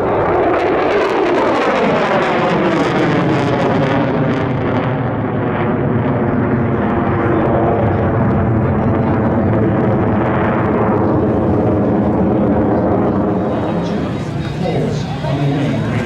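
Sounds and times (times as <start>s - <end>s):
jet aircraft engine roar: 0.0s - 16.0s.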